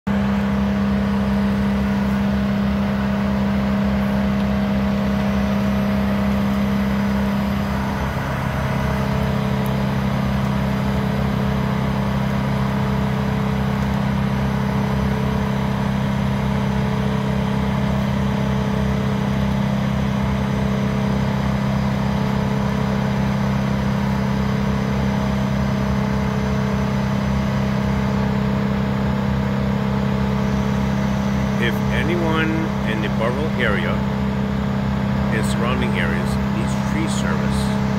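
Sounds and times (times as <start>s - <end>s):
truck engine droning: 0.1s - 37.9s.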